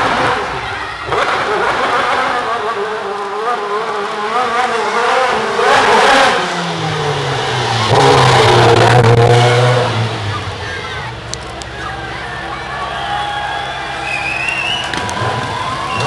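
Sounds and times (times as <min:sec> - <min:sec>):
racing car engine revving: 0:00.0 - 0:11.8, 0:13.9 - 0:16.0.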